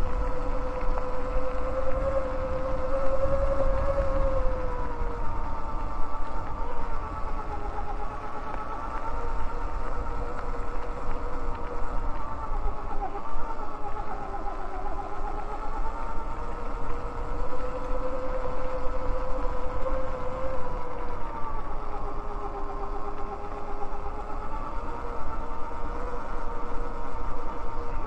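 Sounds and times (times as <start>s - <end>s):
electric bike motor whining: 0.0s - 28.0s
wind rumble on microphone: 0.0s - 28.0s.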